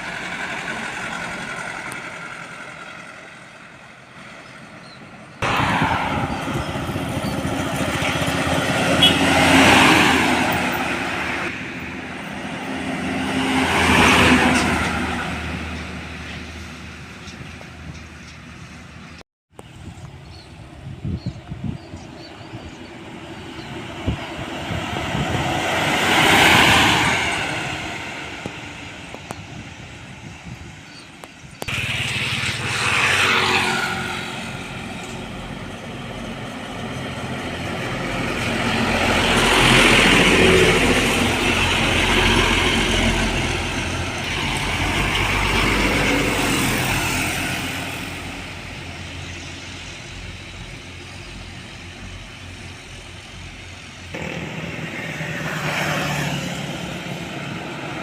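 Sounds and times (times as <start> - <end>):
heavy trucks driving past: 0.0 - 19.2, 22.1 - 58.0.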